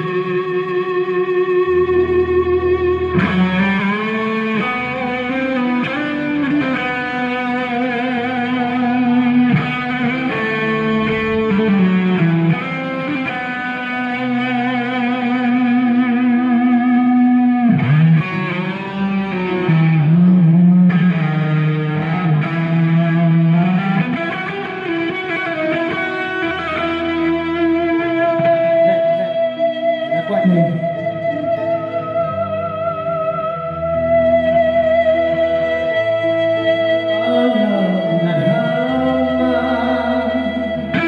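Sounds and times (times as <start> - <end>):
distorted electric guitar solo: 0.0 - 41.0.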